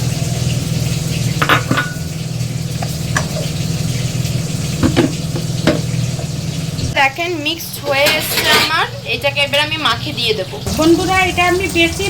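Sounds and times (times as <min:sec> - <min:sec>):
meatballs sizzling in oil: 0:00.0 - 0:12.0.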